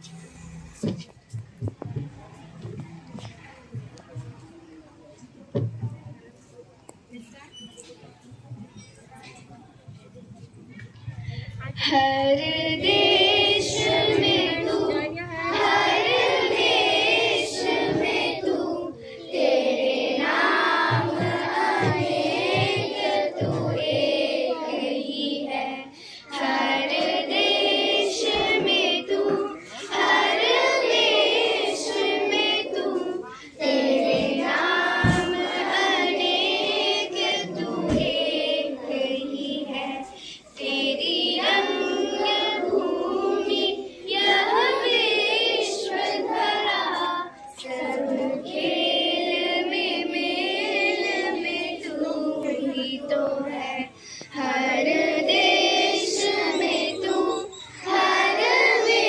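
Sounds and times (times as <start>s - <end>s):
children singing in unison: 11.7s - 59.0s.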